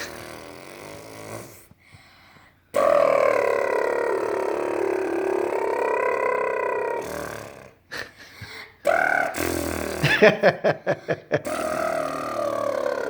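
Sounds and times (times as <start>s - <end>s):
person making silly vocal noises: 0.0s - 1.7s, 2.8s - 8.1s, 8.8s - 13.0s.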